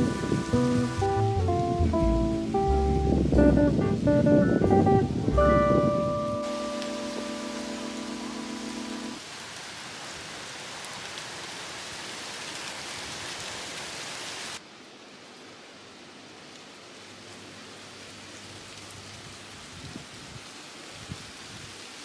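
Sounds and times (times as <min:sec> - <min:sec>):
dull rain patter: 0:00.0 - 0:22.0
rain hiss: 0:00.0 - 0:22.0.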